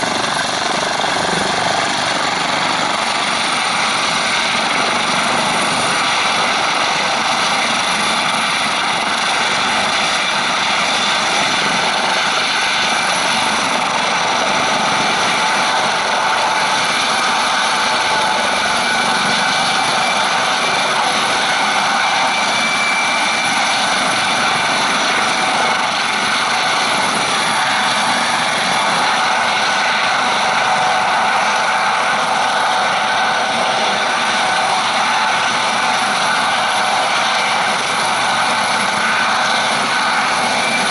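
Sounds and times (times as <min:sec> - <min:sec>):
helicopter turbine engines and rotors: 0:00.0 - 0:40.9.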